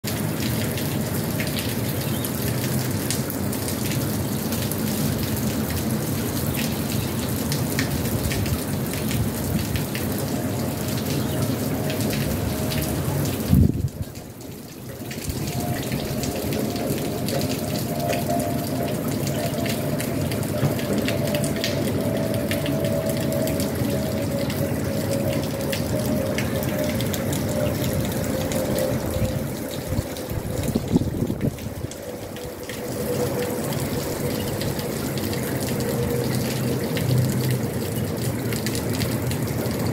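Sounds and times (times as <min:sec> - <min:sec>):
steady rain: 0:00.0 - 0:39.9
water drips: 0:00.0 - 0:39.9
distant jet engine whine: 0:04.6 - 0:39.9.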